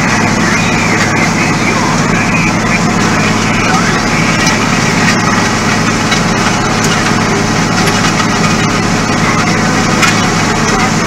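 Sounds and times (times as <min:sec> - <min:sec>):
harrow dragging through dirt: 0:00.0 - 0:11.0
tractor engine running: 0:00.0 - 0:11.0.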